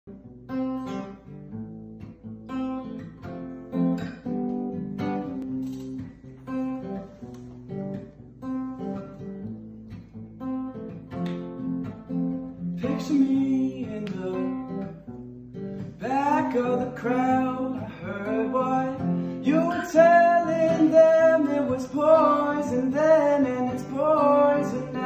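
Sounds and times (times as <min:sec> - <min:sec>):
acoustic guitar strumming: 0:00.1 - 0:25.0.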